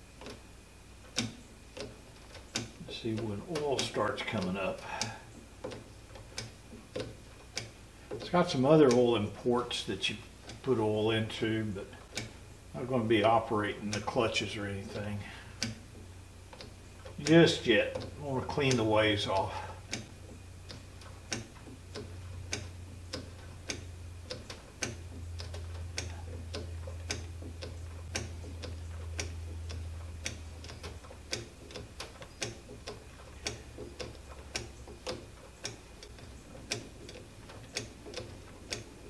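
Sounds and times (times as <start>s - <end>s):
low steady hum: 0.0s - 39.0s
hand oil pump clicking: 1.1s - 12.4s, 13.2s - 39.0s.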